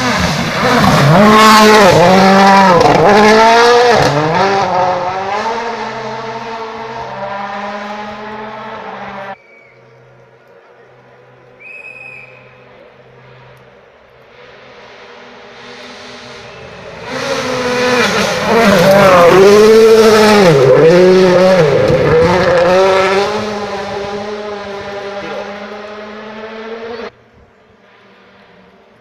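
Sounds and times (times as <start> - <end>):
rally car engine at full throttle: 0.0 - 11.6, 12.2 - 29.0.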